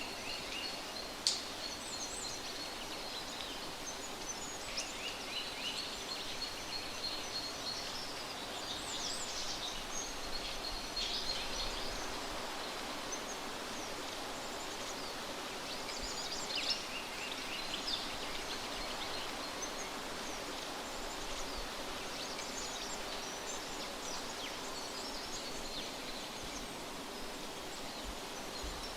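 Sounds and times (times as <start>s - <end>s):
steady background hiss: 0.0s - 28.9s.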